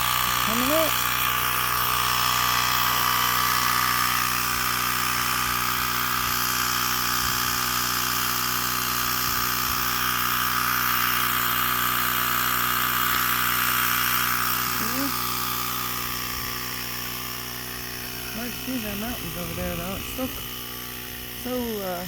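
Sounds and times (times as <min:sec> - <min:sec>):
small motor buzzing hum: 0:00.0 - 0:22.0.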